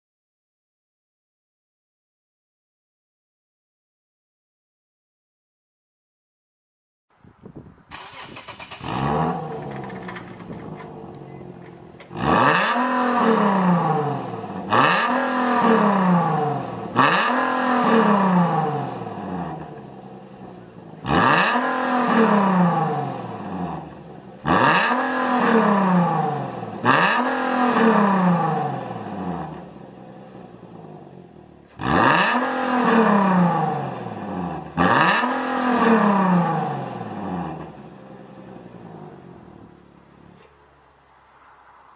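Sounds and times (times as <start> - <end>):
car engine idling and revving: 7.9 - 41.9.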